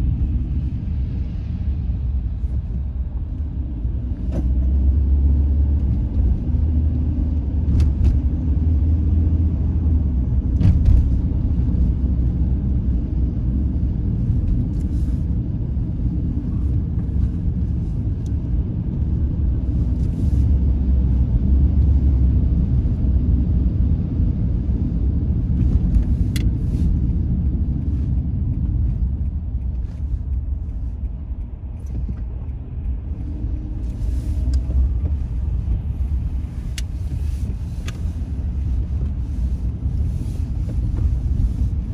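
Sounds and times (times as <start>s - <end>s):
car road and engine rumble: 0.0s - 41.9s.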